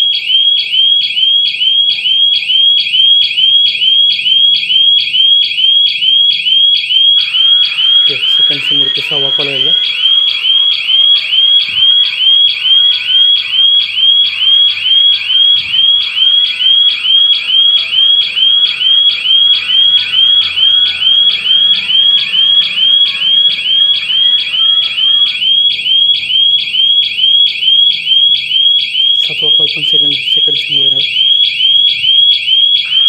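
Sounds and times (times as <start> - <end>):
burglar alarm siren chirping: 0.0 - 33.0.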